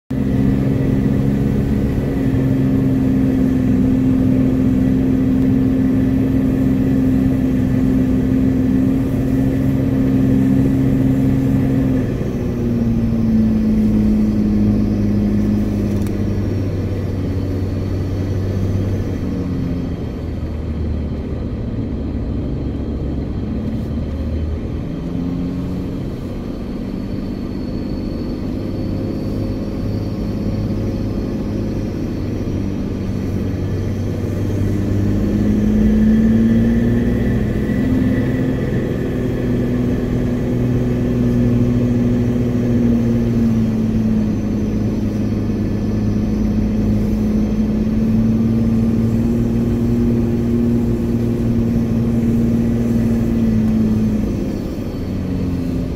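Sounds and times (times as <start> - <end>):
vehicle engine running from cab: 0.0 - 55.9.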